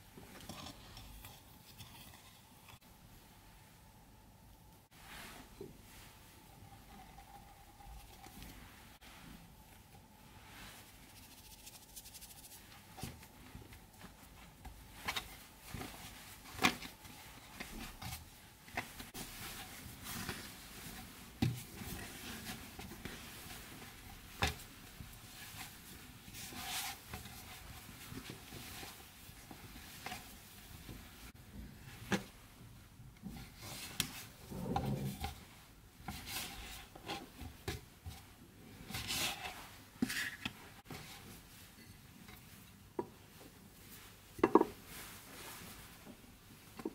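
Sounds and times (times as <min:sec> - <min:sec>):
hands kneading dough: 0:04.9 - 0:46.9.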